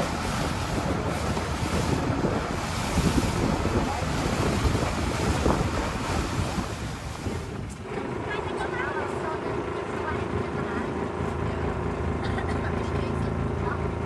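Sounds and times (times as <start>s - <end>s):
wind buffeting microphone: 0.0s - 11.3s
water rushing along boat hull: 0.0s - 14.0s.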